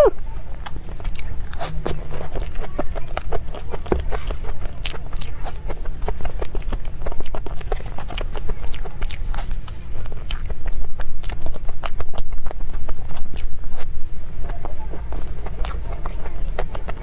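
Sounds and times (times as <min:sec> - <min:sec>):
mouth chewing clicks and smacks: 0:00.1 - 0:17.0.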